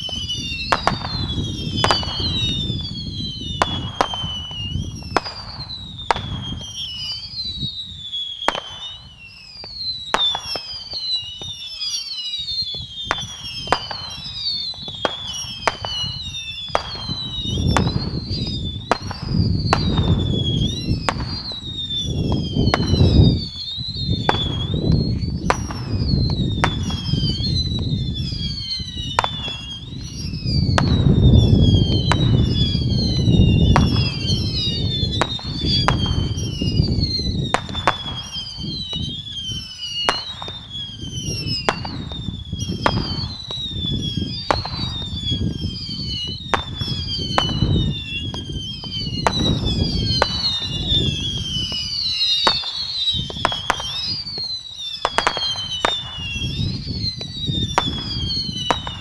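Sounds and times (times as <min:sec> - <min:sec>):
firework pops: 0:00.0 - 0:11.8, 0:12.6 - 0:45.6, 0:46.2 - 0:59.0
whistling missiles falling in pitch: 0:00.0 - 0:59.0.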